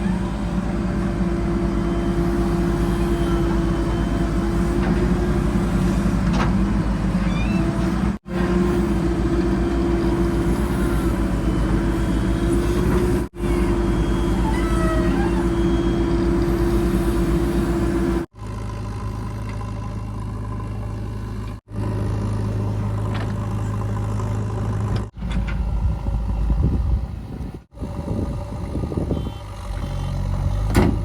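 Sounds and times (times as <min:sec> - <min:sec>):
diesel engines running: 0:00.0 - 0:31.0.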